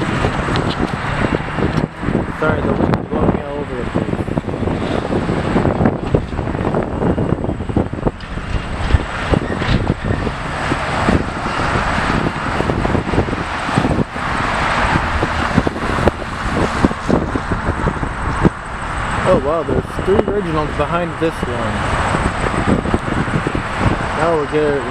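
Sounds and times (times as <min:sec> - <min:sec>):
road traffic: 0:00.0 - 0:24.9
wind buffeting microphone: 0:00.0 - 0:24.9.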